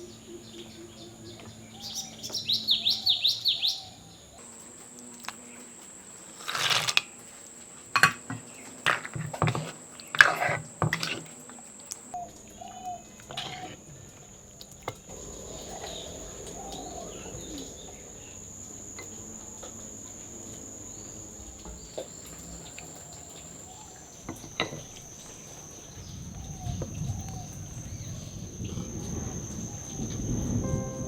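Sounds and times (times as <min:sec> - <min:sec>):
faint chirps: 0:00.0 - 0:05.8, 0:11.5 - 0:31.0
high-pitched insect drone: 0:00.0 - 0:31.0.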